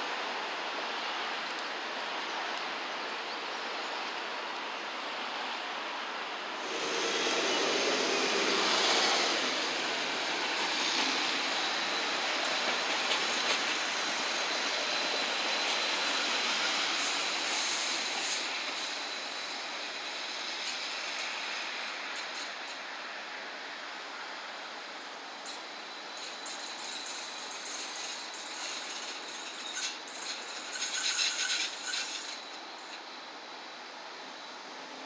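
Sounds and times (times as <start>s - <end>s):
tram wheels rushing on rails: 0.0s - 35.0s
steady hiss: 2.9s - 35.0s.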